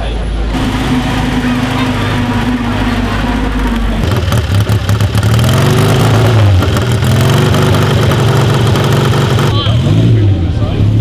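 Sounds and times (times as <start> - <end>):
car engines driving slowly past: 0.0 - 11.0.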